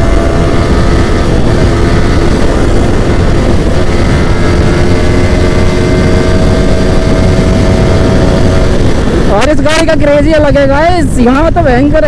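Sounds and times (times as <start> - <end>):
motorcycle engine cruising: 0.0 - 12.0
wind rush on microphone: 0.0 - 12.0.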